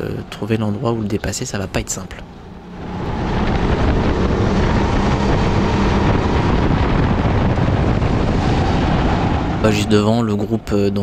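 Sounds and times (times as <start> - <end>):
wind rushing over microphone: 1.7 - 11.0.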